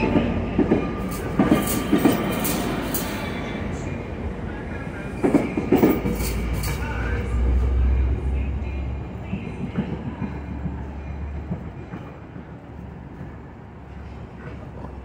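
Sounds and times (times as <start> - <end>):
train cars rumbling: 0.0 - 15.0.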